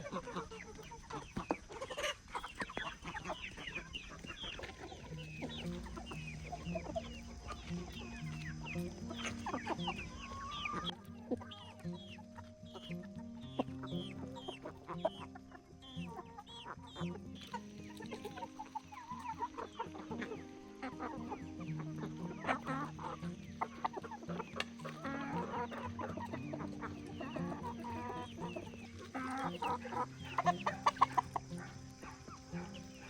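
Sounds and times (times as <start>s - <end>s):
chickens clucking: 0.0s - 33.0s
soft background music: 0.0s - 33.0s
high falling peeps: 1.9s - 33.0s.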